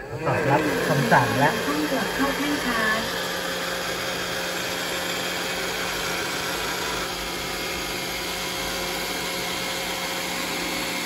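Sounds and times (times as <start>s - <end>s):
robot vacuum motors whirring: 0.0s - 11.0s.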